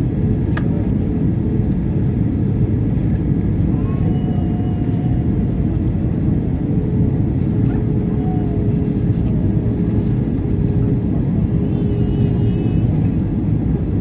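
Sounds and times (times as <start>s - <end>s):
jet engine cabin noise: 0.0s - 14.0s.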